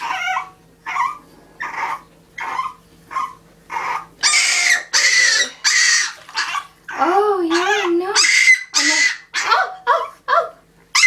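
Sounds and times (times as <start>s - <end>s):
puppy whimpering and crying: 0.0s - 11.0s.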